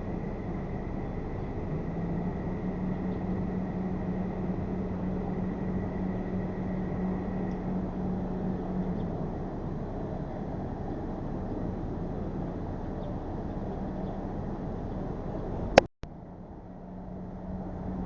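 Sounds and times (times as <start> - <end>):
rushing wind and road noise: 0.0 - 18.0.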